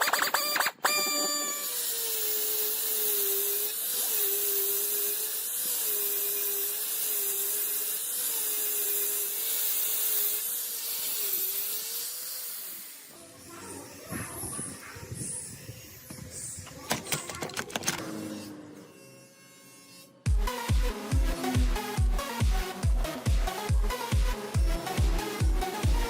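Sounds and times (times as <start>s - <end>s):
electric power tool running: 0.0s - 26.0s.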